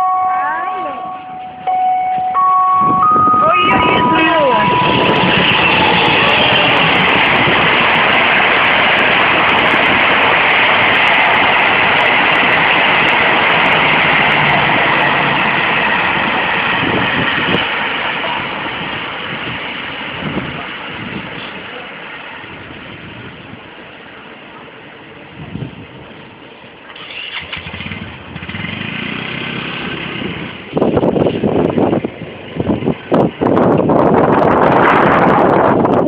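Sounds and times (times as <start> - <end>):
train moving on rails: 0.0 - 36.0.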